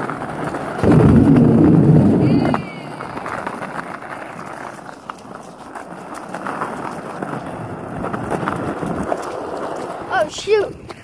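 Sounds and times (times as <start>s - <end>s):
skateboard wheels rolling on asphalt: 0.0s - 11.0s.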